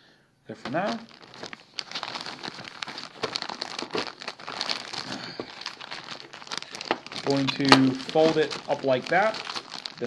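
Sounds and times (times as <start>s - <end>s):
plastic bag crinkling: 0.6s - 10.0s.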